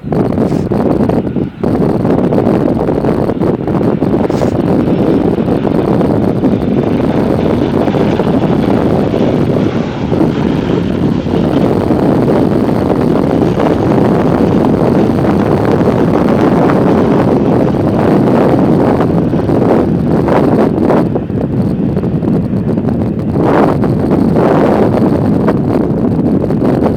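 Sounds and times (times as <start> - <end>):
jet engines rushing drone: 0.0 - 26.9
wind buffeting microphone: 0.0 - 26.9.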